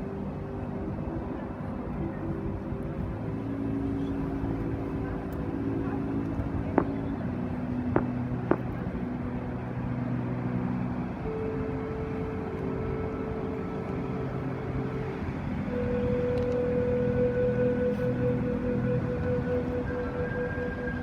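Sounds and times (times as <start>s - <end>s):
loudspeaker soundtrack low notes: 0.0s - 21.0s
wind rumbling on microphone: 0.0s - 21.0s.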